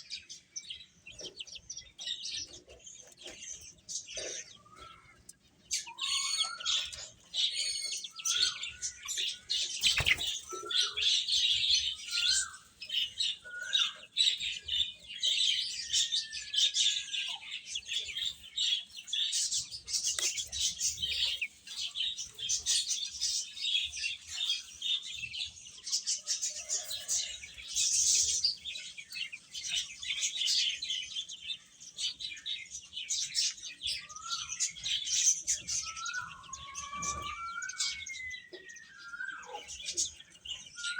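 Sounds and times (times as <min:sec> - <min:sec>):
baby chicks peeping: 0:00.0 - 0:40.9.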